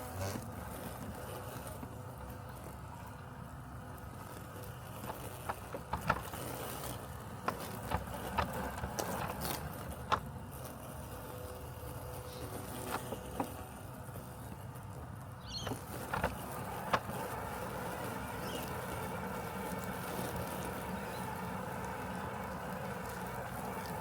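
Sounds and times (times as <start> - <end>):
robotic lawn mower humming: 0.0 - 24.0.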